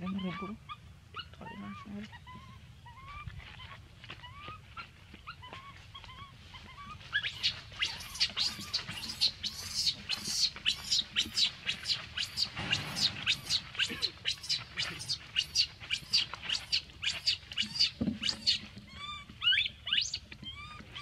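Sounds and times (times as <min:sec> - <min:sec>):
baby monkey crying: 0:00.0 - 0:21.0.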